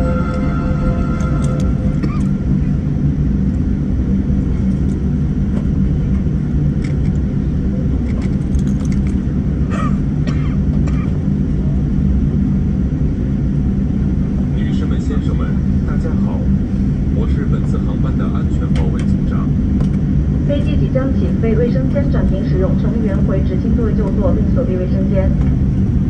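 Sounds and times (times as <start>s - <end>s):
aircraft engines rumbling: 0.0s - 26.0s.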